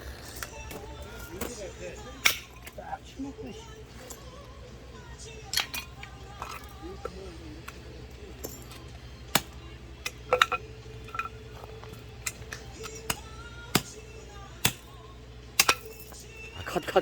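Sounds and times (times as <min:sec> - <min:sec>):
axe splitting firewood: 0:00.0 - 0:04.4, 0:05.4 - 0:16.4
faint music: 0:00.0 - 0:17.0
steady low hum: 0:00.0 - 0:17.0.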